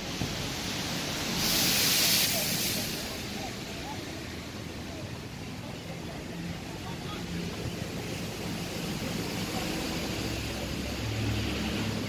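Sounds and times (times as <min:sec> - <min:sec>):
rushing background noise: 0:00.0 - 0:12.0.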